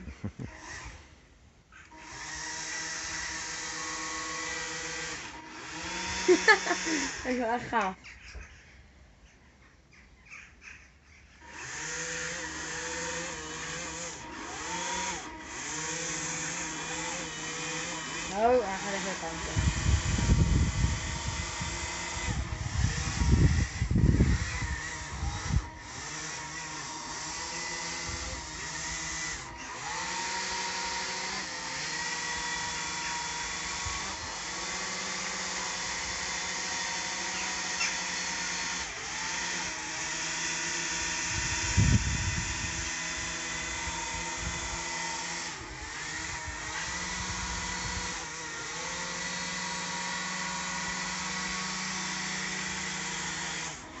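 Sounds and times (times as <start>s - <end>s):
toy hovercraft fan motors whining: 0.0s - 8.7s, 11.1s - 54.0s.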